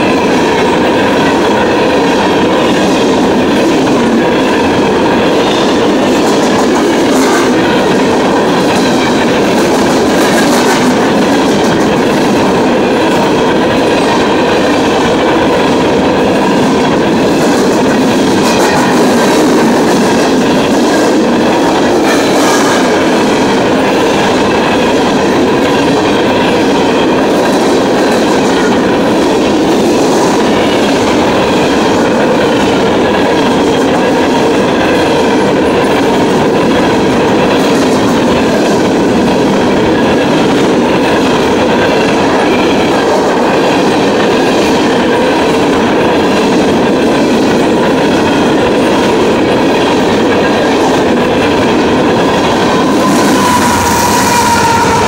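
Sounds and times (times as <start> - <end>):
clickety-clack over rail joints: 0.0 - 55.0
train wheels rolling on rails: 0.0 - 55.0.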